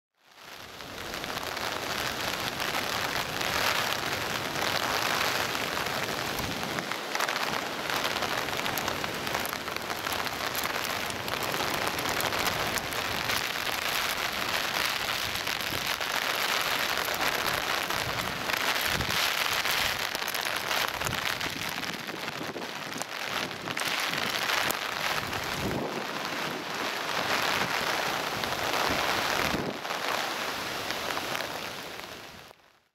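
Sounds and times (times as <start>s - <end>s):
heavy rain: 0.2s - 32.7s
storm wind: 0.6s - 32.5s.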